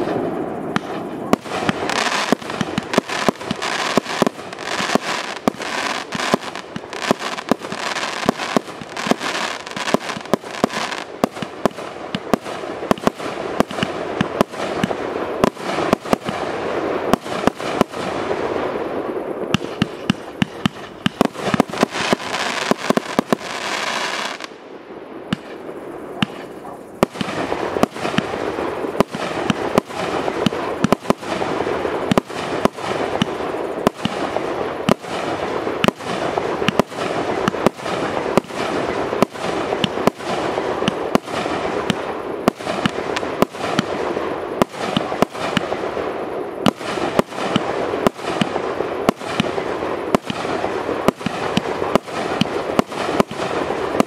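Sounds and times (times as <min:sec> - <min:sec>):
firework crackle: 0:00.0 - 0:54.0.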